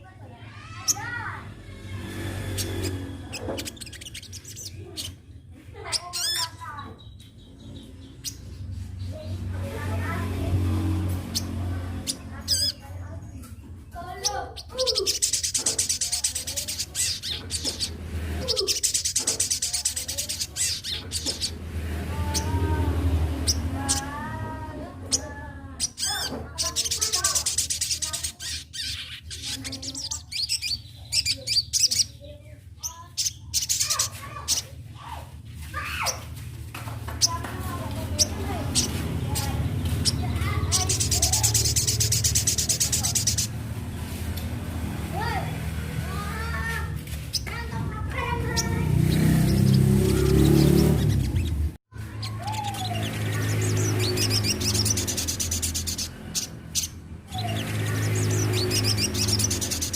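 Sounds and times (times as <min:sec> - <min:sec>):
sunbird twittering song: 0:02.2 - 0:34.7, 0:37.2 - 0:45.3, 0:47.2 - 0:59.9.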